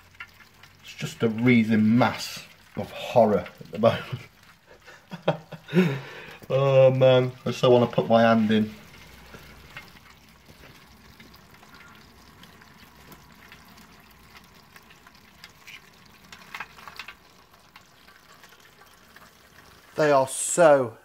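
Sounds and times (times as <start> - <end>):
crayfish shells clicking and scraping: 0.0 - 4.7, 6.2 - 19.8.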